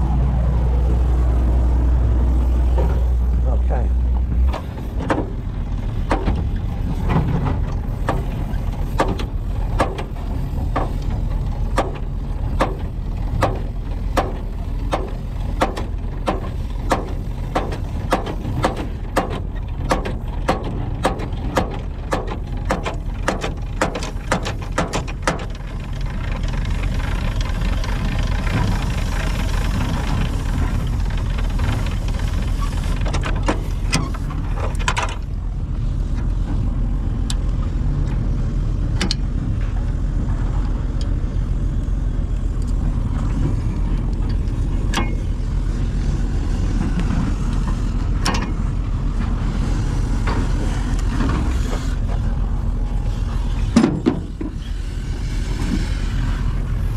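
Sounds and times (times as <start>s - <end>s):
large vehicle engine idling: 0.0s - 56.9s.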